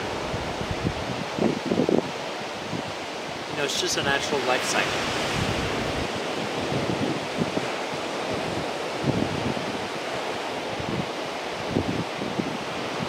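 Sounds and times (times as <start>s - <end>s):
surf washing onto rocks: 0.0s - 13.0s
wind buffeting microphone: 0.0s - 13.0s.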